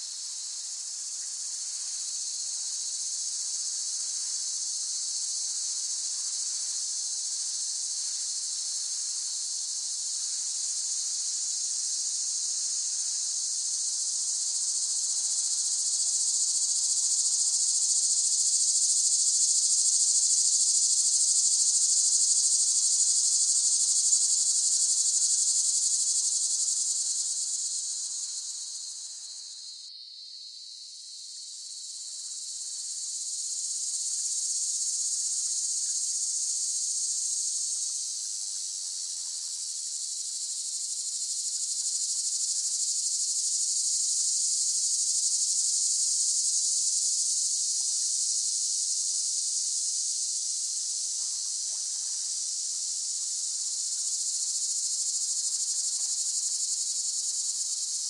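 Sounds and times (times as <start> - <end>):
cicadas buzzing in chorus: 0.0 - 58.0.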